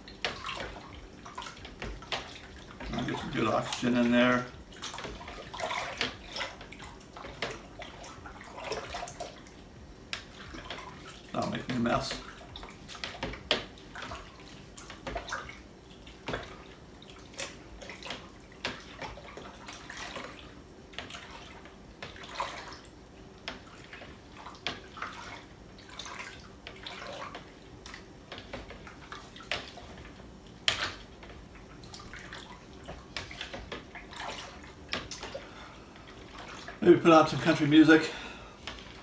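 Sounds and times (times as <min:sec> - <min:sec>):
liquid sloshing in plastic bucket: 0:00.0 - 0:39.0.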